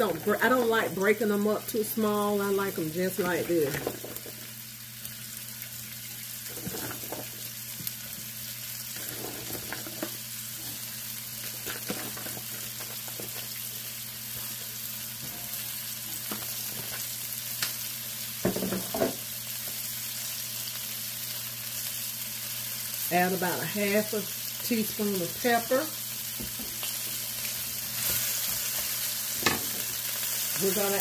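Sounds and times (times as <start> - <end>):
vegetables sizzling in a pan: 0.0 - 31.0.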